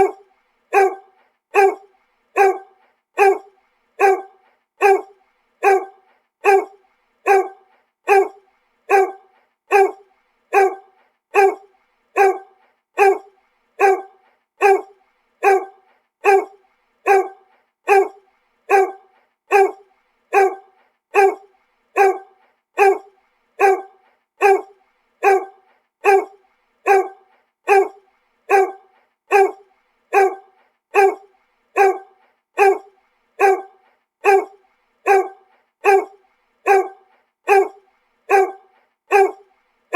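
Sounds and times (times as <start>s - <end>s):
dog barking: 0.0s - 39.5s.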